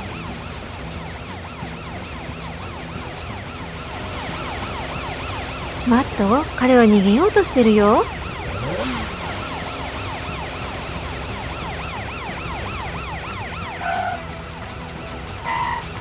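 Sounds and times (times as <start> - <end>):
police siren fast yelp: 0.0 - 16.0.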